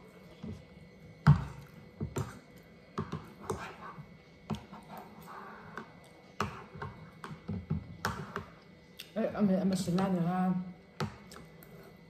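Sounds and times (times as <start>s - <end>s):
soft eating noises: 0.0s - 10.2s, 10.8s - 12.0s.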